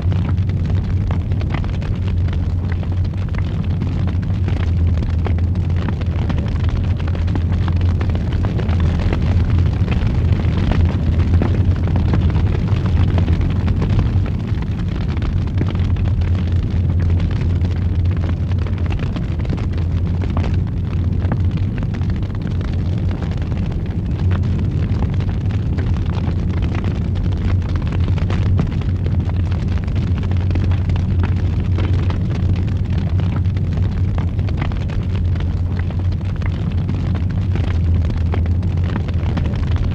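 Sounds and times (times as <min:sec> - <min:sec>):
burning wood crackles and pops: 0:00.0 - 0:39.9
wood fire roaring: 0:00.0 - 0:39.9.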